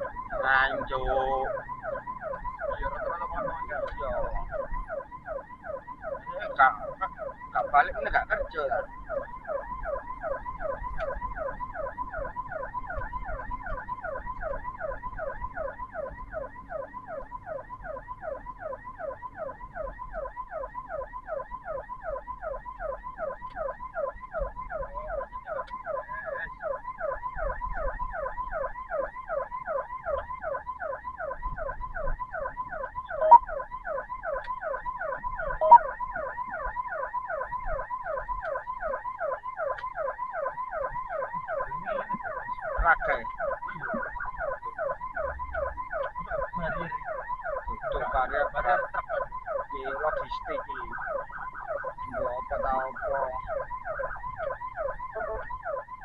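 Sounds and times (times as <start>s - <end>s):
low vehicle rumble: 0.0s - 56.0s
siren yelping: 0.0s - 56.0s.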